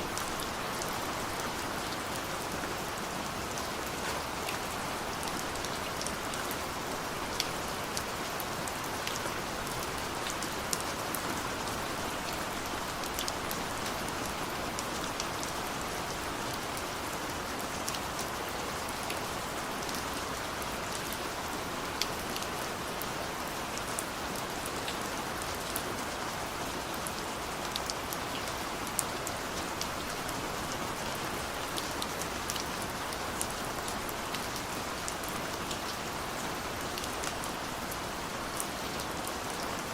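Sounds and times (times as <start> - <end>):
raindrops dripping on surface: 0.0 - 39.9
steady rain hiss: 0.0 - 39.9.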